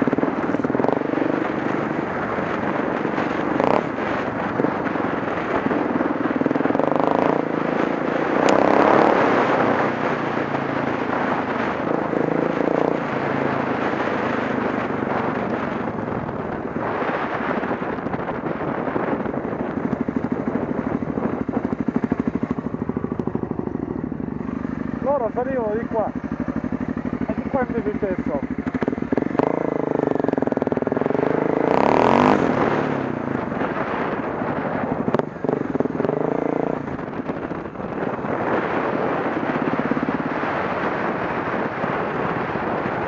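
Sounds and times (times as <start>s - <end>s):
motorcycle engine running: 0.0s - 43.0s
wind noise: 0.0s - 43.0s.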